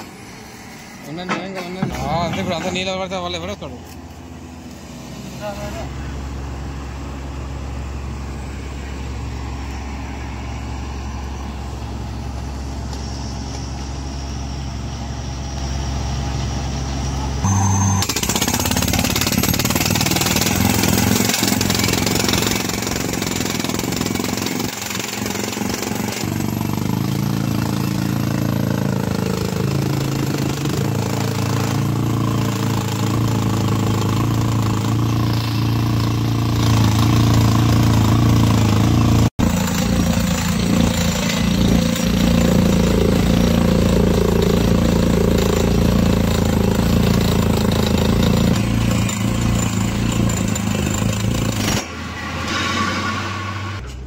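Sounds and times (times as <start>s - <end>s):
drilling rig engine running: 0.0s - 54.0s.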